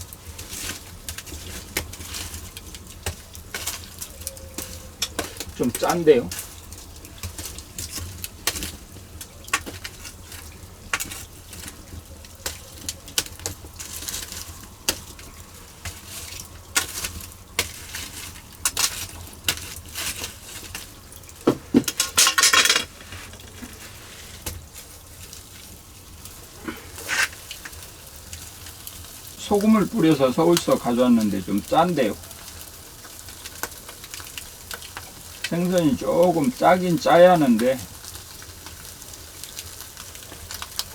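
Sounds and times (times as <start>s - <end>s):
fish sizzling on grill: 0.0s - 40.9s.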